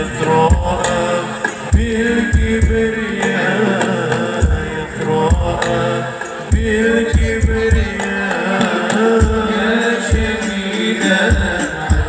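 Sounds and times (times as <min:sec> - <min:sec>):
percussion music over loudspeakers: 0:00.0 - 0:12.0
deep drum strikes: 0:00.1 - 0:12.0.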